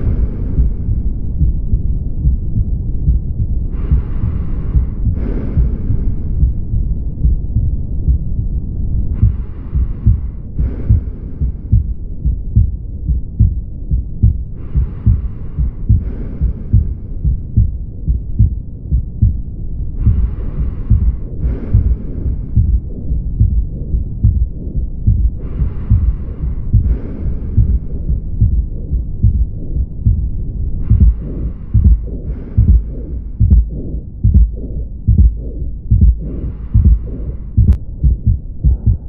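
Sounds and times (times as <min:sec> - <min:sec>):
heart murmur rumble: 0:00.0 - 0:39.0
low dull heartbeats: 0:00.0 - 0:39.0.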